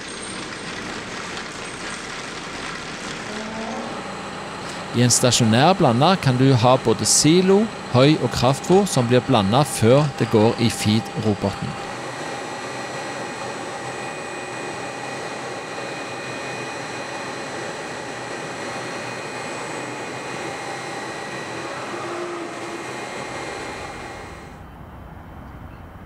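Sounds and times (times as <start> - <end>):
feed mixer auger churning: 0.0 - 24.6
mechanical hum and whine: 0.0 - 26.0.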